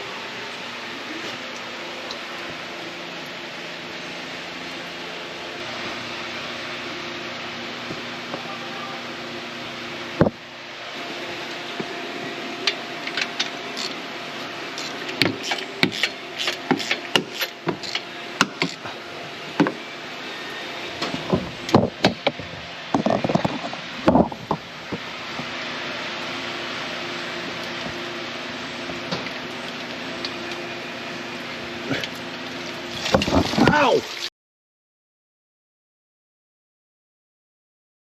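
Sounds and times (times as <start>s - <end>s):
mechanical hum: 0.0s - 34.3s.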